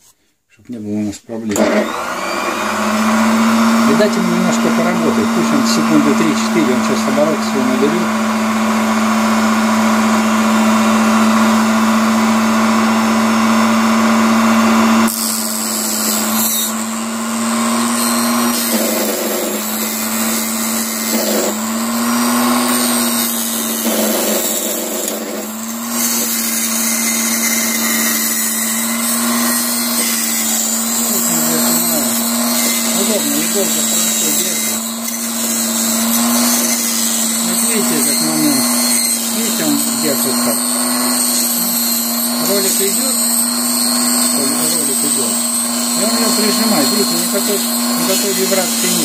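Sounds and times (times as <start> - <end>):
saw cutting thin wood: 1.5 - 8.3, 14.1 - 49.0
table saw running: 1.5 - 49.0.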